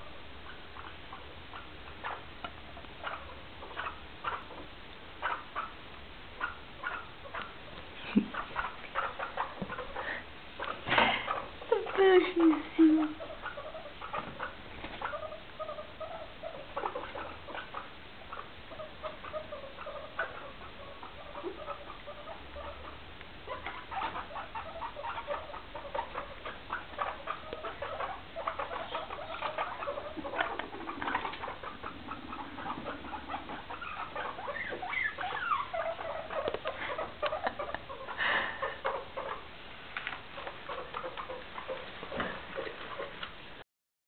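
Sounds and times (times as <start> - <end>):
guinea pig squeaks: 0.0 - 5.8, 6.4 - 43.3.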